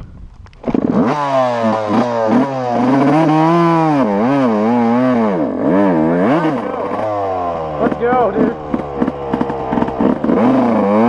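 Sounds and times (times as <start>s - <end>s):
dirt bike engine revving: 0.6s - 11.0s.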